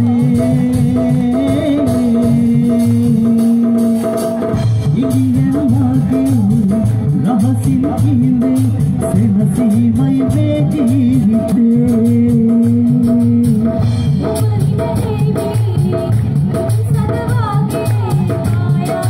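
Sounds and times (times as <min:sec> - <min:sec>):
live band playing with singing: 0:00.0 - 0:19.0.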